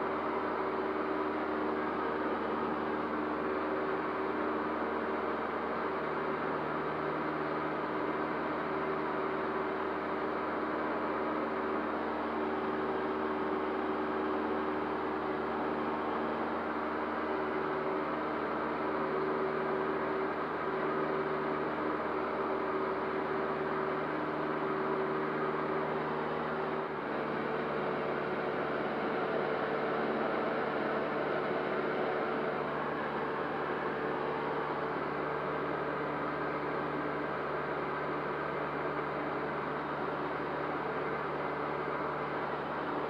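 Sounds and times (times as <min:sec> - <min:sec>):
airplane engine droning in cockpit: 0:00.0 - 0:43.0.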